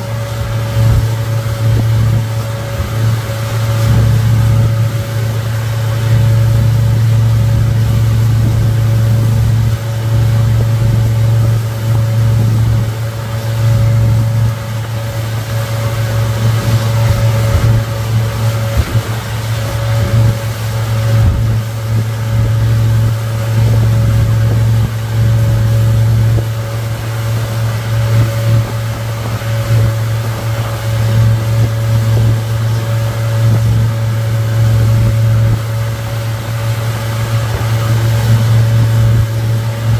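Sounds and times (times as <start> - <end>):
outboard motor humming: 0.0 - 39.9
wake water rushing: 0.0 - 39.9
wind: 0.0 - 39.9.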